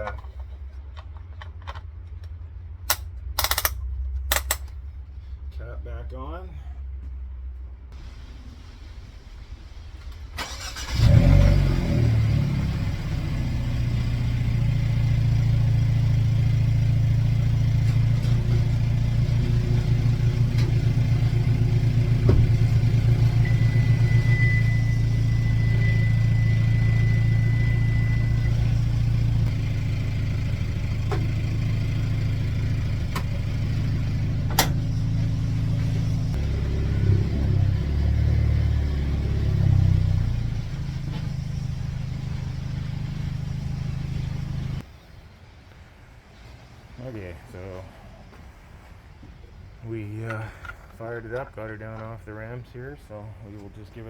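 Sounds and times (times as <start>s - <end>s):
car engine starting and idling: 0.0s - 45.0s.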